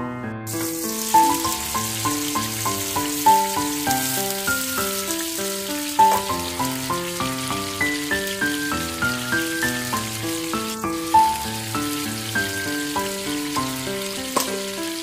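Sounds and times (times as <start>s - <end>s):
background music melody: 0.0s - 15.0s
butter sizzling in a frying pan: 0.5s - 15.0s.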